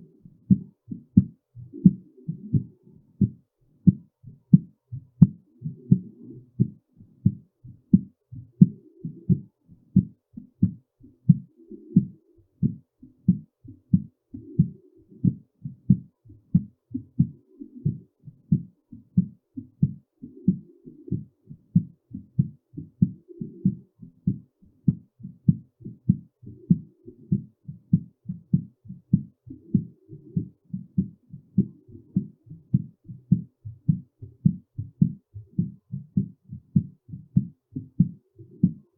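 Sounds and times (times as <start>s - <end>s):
heartbeat thumps: 0.4s - 38.9s.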